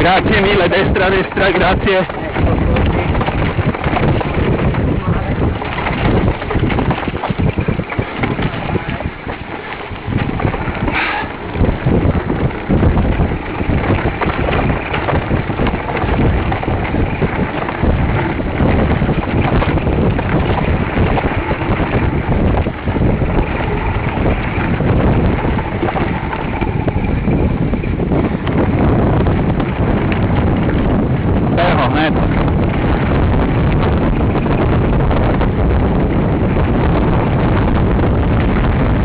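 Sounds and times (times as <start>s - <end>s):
bike knocks and rattles: 0.0s - 39.0s
wind buffeting microphone: 0.0s - 39.0s.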